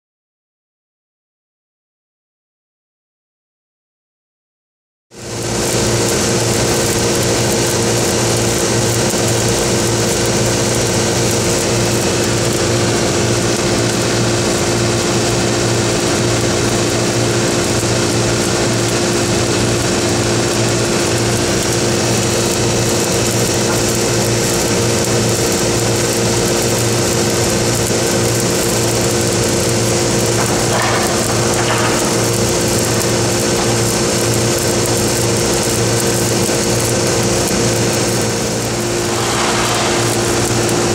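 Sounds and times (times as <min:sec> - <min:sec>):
welding arc hissing and crackling: 0:05.2 - 0:40.9
welding machine engine droning: 0:05.2 - 0:40.9.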